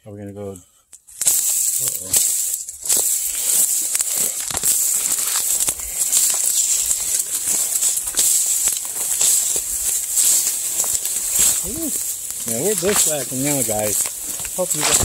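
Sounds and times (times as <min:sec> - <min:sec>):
twigs snapping: 0:01.2 - 0:15.0
dry brush scraping and rustling: 0:01.3 - 0:15.0.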